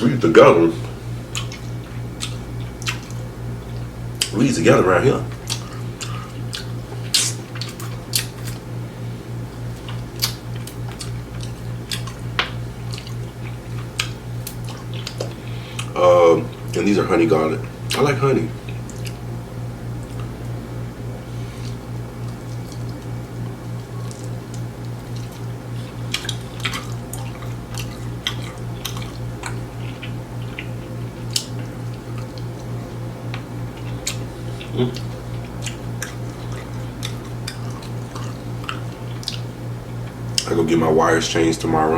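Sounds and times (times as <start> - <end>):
steady low hum: 0.0 - 41.9
person chewing with wet smacking: 0.7 - 4.4, 5.2 - 16.8, 17.6 - 19.3, 19.9 - 20.6, 21.3 - 40.6.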